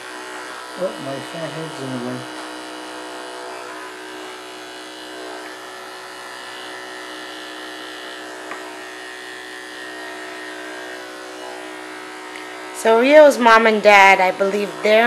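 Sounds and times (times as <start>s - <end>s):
electric clippers buzzing: 0.0s - 15.0s.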